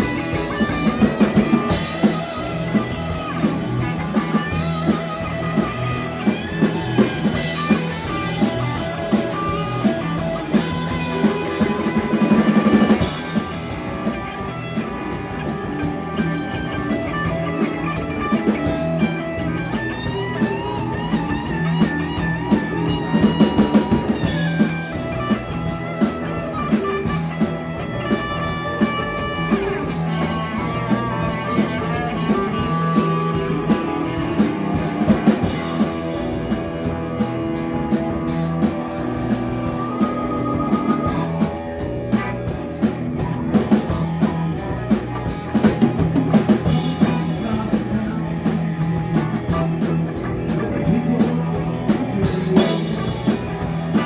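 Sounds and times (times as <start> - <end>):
bass guitar: 0.0 - 54.0
drum kit with fills: 0.0 - 54.0
electric guitar: 0.0 - 54.0.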